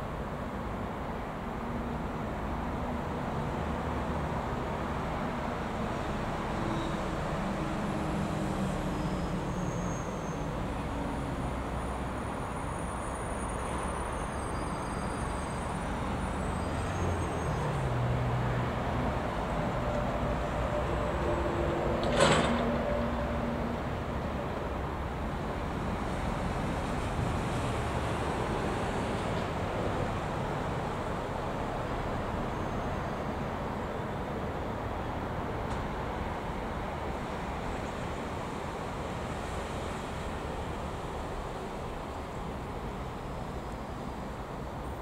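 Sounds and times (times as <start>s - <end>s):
diesel locomotive engine rumble: 0.0s - 45.0s.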